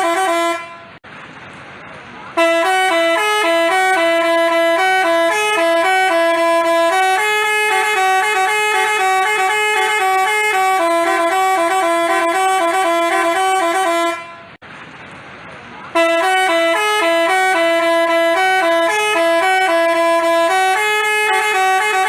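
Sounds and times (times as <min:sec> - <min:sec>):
bus horn playing a tune: 0:00.0 - 0:01.0, 0:02.3 - 0:14.6, 0:15.9 - 0:22.0.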